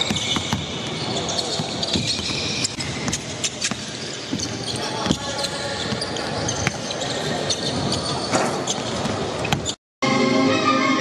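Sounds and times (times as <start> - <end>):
basketballs bouncing on hardwood: 0.0 - 9.7.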